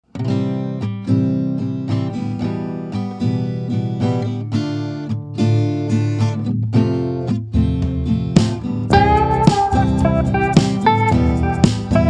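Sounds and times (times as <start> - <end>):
plucked string music: 0.1 - 12.0.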